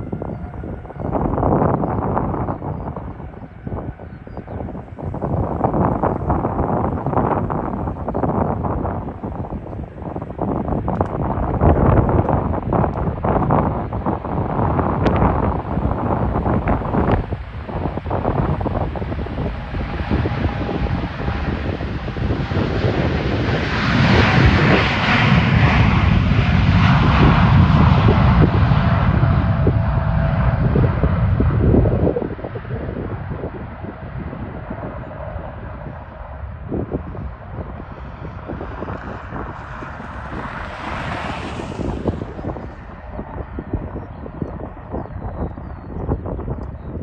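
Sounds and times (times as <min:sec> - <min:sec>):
jet engines passing: 0:00.0 - 0:47.0
wind buffeting microphone: 0:00.0 - 0:47.0.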